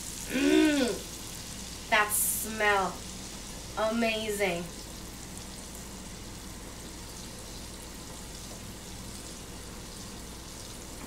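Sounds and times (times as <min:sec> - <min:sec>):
garlic sizzling in butter: 0:00.0 - 0:11.0.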